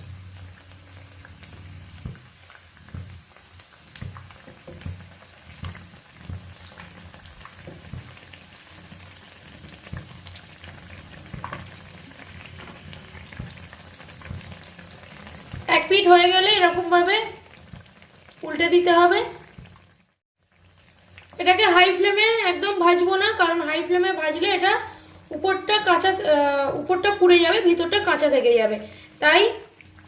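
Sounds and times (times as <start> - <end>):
oil popping and crackling: 0.0 - 24.6
batter sizzling in hot oil: 0.0 - 30.0.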